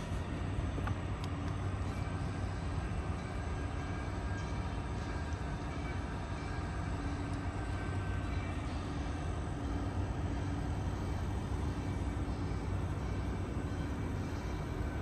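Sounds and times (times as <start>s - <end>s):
faint steady tones: 0.0s - 15.0s.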